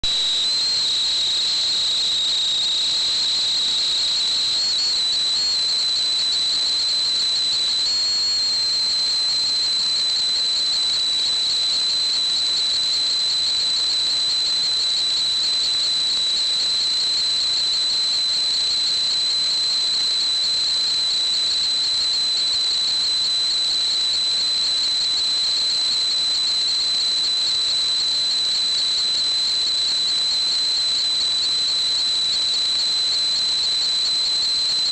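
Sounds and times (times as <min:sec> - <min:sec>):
high-pitched whistle: 0:00.0 - 0:34.9.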